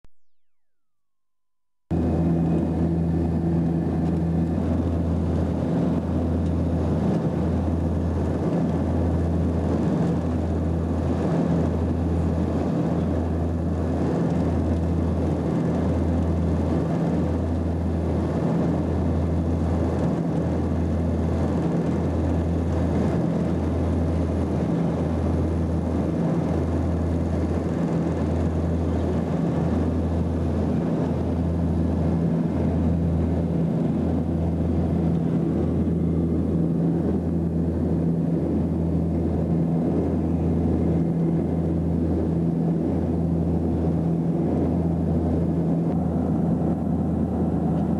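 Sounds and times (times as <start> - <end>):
propeller plane cabin drone: 0.6 - 47.9.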